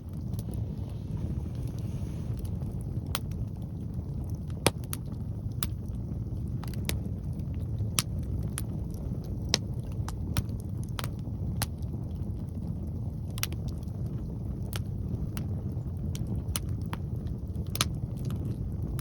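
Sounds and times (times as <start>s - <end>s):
log fire crackling: 0.0s - 19.0s
wind rumble on microphone: 0.0s - 19.0s.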